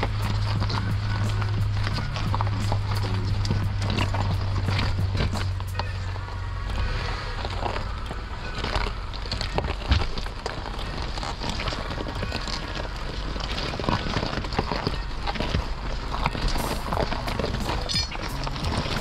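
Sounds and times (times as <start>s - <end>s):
crackles and knocks: 0.0s - 19.0s
road and engine rumble: 0.0s - 19.0s
tyres crunching on gravel: 0.0s - 19.0s.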